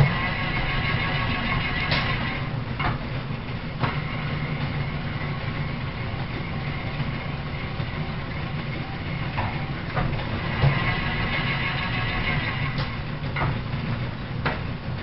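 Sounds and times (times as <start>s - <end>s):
metal planer rumbling: 0.0s - 15.0s.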